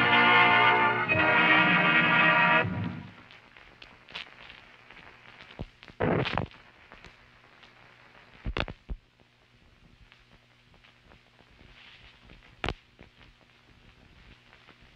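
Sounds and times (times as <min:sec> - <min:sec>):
film soundtrack hiss and hum: 0:00.0 - 0:14.9.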